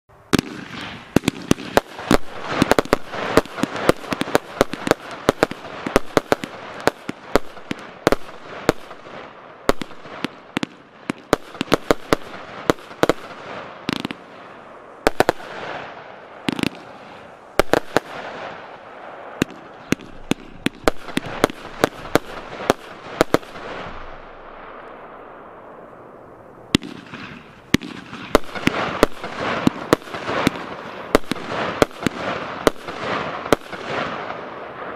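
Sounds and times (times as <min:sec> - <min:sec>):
continuous hiss: 0:00.1 - 0:34.9
fireworks battery firing: 0:00.3 - 0:25.2, 0:26.7 - 0:34.9.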